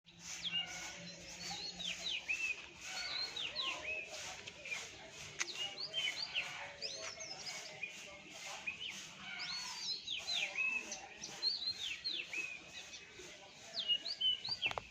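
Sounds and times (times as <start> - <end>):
small birds chirping: 0.1 - 14.9.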